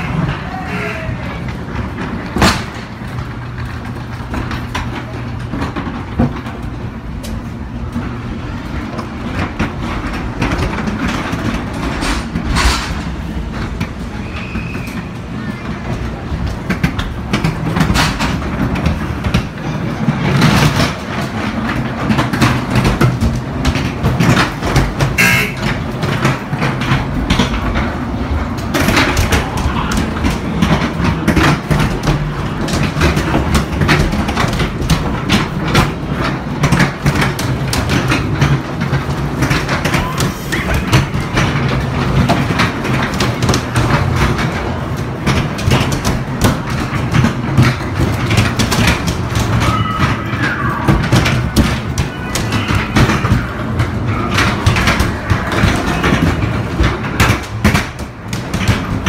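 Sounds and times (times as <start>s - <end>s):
ride car clattering along track: 0.0s - 59.0s.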